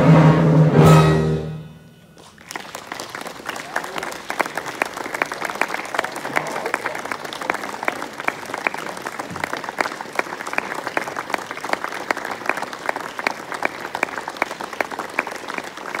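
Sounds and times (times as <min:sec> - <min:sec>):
audience applauding: 0:02.2 - 0:16.0.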